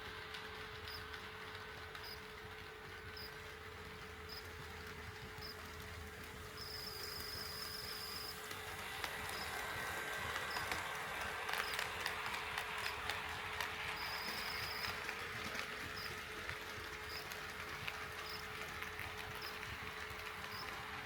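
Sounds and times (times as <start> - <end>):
model train buzzing on track: 0.0 - 21.0.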